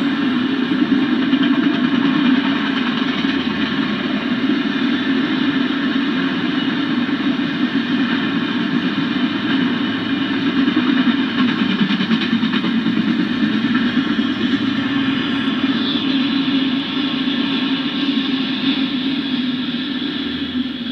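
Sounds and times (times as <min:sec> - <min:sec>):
steel wheels rumbling on rails: 0:00.0 - 0:20.9.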